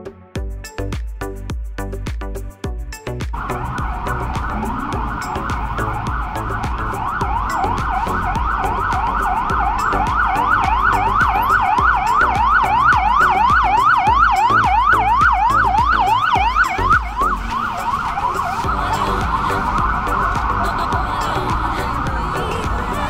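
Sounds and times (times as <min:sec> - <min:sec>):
fire truck siren yelping: 0:03.4 - 0:23.0.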